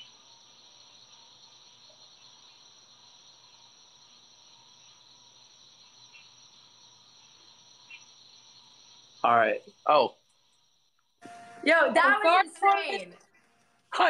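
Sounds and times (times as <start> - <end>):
faint high hiss: 0.0 - 14.0.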